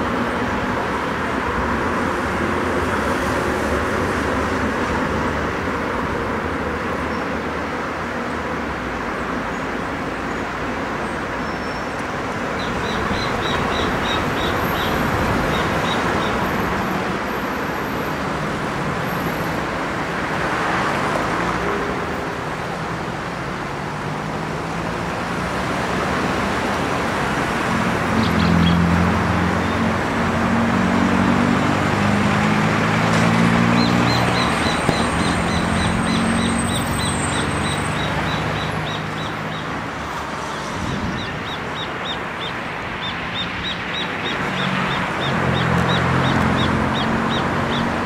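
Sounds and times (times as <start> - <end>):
cars passing: 0.0 - 48.0.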